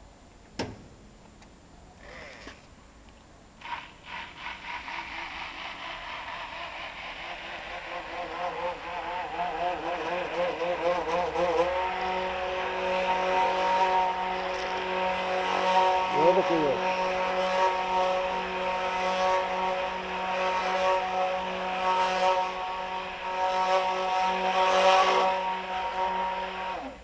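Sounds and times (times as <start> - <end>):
stick mixer motor whining: 3.6 - 27.0.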